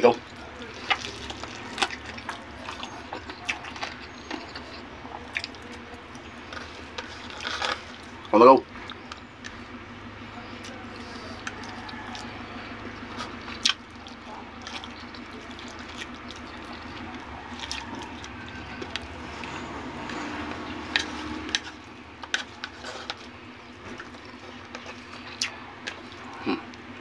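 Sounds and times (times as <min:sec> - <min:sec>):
wet squishy eating: 0:00.2 - 0:27.0.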